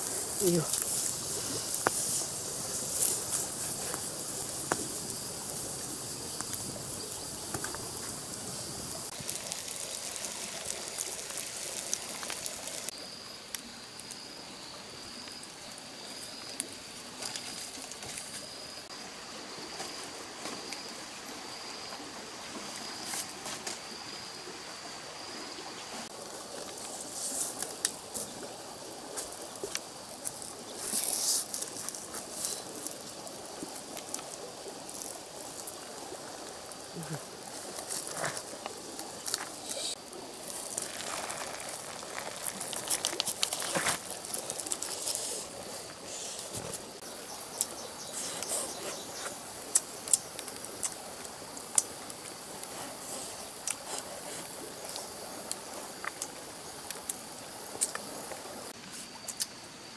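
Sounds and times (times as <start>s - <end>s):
wood fire hissing and crackling: 0.0s - 59.9s.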